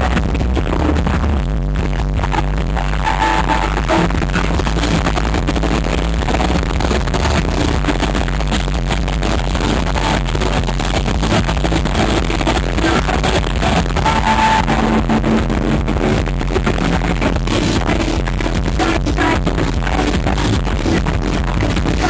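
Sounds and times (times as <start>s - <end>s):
live synth-pop band playing: 2.3s - 22.0s.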